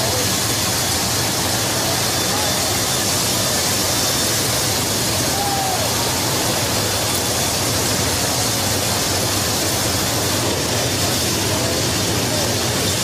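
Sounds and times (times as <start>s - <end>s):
airflow rushing: 0.0s - 13.0s
constant low hum: 0.0s - 13.0s
turbofan engine noise: 0.0s - 13.0s.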